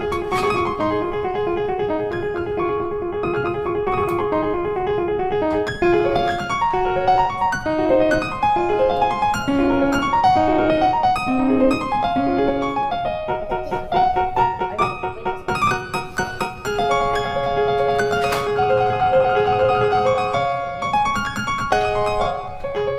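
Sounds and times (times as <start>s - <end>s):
piano music: 0.0s - 22.9s.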